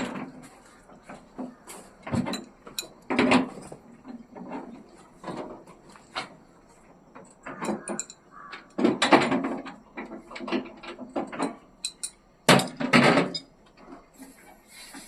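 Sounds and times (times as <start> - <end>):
knocking and clattering: 0.0 - 14.2.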